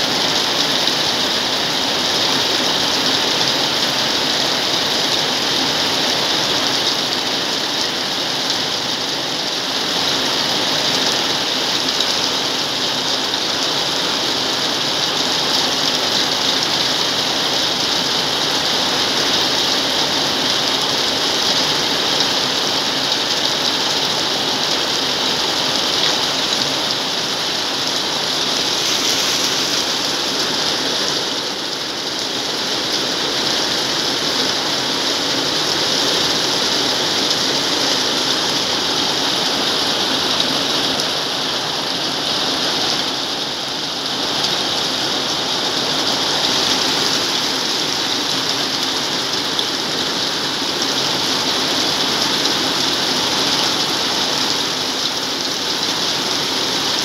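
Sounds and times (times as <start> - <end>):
heavy rain on metal roof: 0.0 - 57.0.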